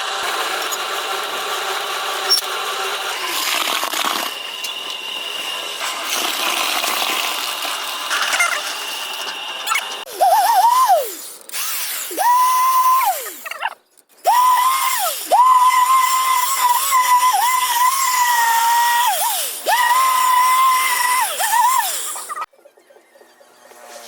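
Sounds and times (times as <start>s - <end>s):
power drill motor whine: 0.0s - 13.5s, 14.2s - 22.5s.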